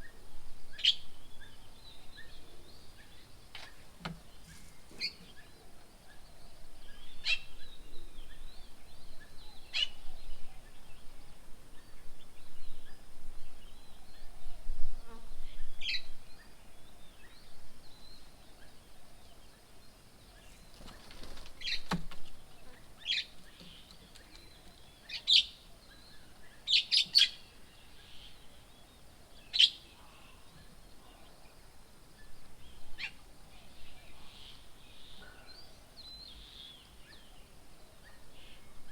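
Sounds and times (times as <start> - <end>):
background noise: 0.0 - 38.9.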